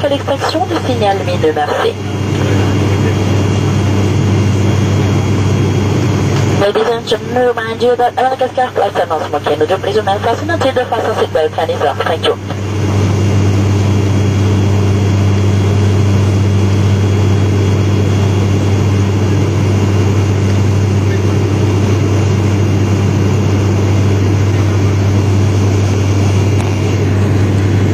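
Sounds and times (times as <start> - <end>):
turboprop engines droning: 0.0 - 27.9.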